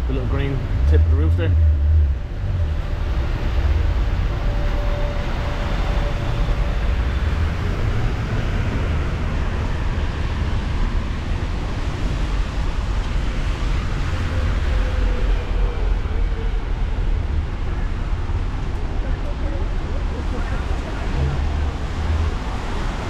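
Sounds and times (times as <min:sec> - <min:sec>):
city traffic din: 0:00.0 - 0:23.0
deep low rumble: 0:00.0 - 0:23.0.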